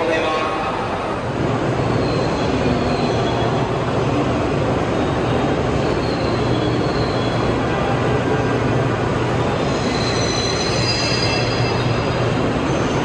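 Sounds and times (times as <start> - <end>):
train mechanical noise: 0.0 - 13.0.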